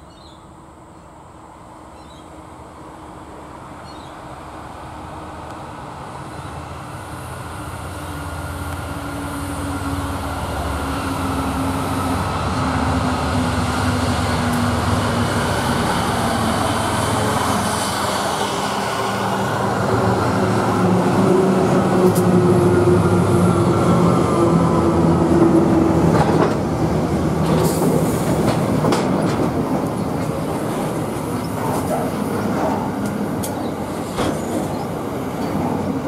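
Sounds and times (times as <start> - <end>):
diesel locomotive engine drone: 0.0 - 36.0
freight train rail noise: 0.0 - 36.0.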